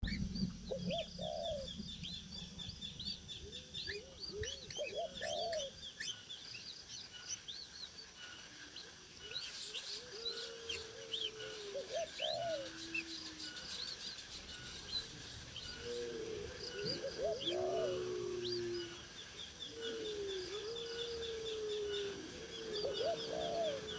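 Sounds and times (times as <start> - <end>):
birds chirping: 0.0 - 23.9
low arching bird calls: 0.0 - 23.9.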